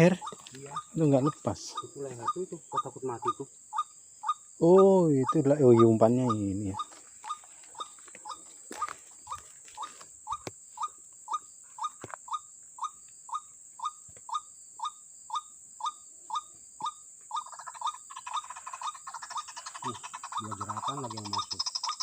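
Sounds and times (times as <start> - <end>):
bird calling: 0.0 - 22.0.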